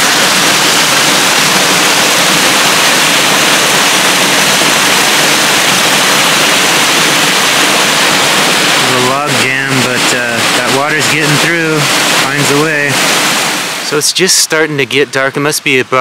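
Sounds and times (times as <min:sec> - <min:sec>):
water rushing over small waterfall: 0:00.0 - 0:16.0.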